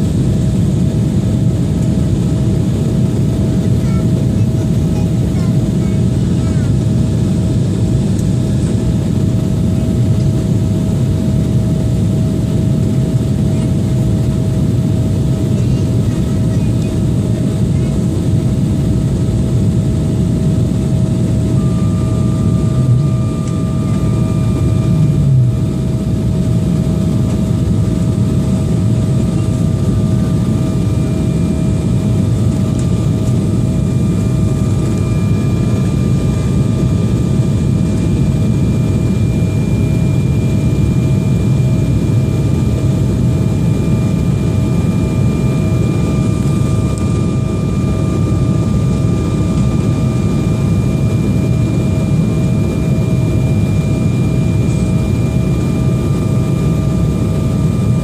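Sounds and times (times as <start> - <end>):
jet engines heard from cabin: 0.0 - 58.0.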